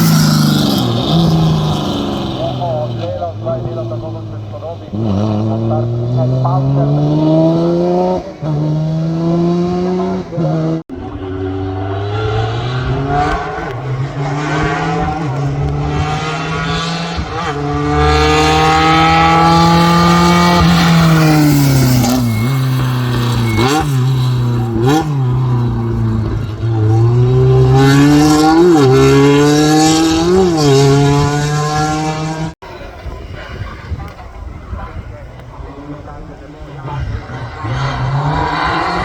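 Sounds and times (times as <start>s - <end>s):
race car engine at high revs: 0.0s - 32.6s, 35.8s - 39.0s.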